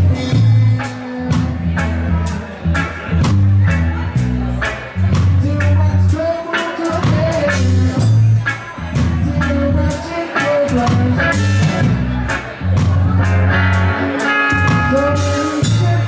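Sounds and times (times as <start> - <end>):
deep bass line: 0.0 - 16.0
drum kit with cymbal hits: 0.0 - 16.0
electric guitar: 0.0 - 16.0.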